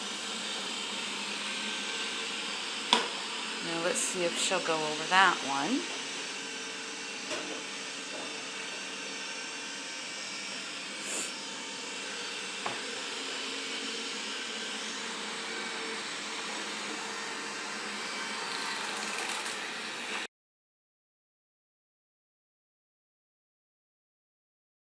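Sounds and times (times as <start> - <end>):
robot vacuum whirring: 0.0 - 20.3.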